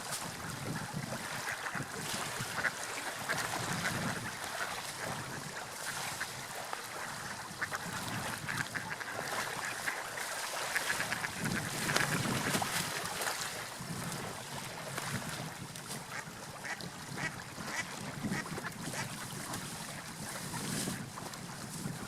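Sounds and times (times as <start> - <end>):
water lapping and splashing: 0.0 - 22.0.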